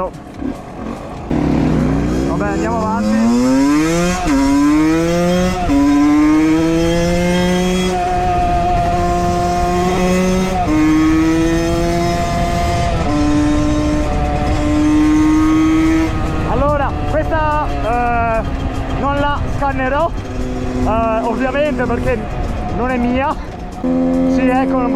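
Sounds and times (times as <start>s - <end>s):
motorcycle engine at high revs: 0.0s - 24.9s
steady rushing noise: 0.0s - 24.9s.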